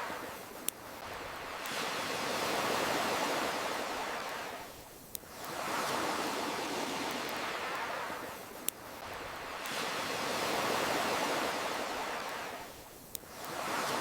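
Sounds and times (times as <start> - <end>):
ocean waves washing in: 0.0 - 14.0.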